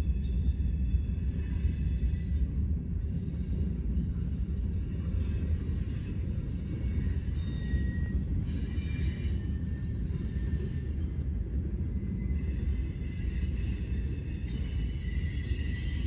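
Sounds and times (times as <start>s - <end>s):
high wheel squeal: 0.0s - 2.6s, 3.2s - 11.2s, 12.2s - 16.0s
train wheels rumbling on rail: 0.0s - 16.0s.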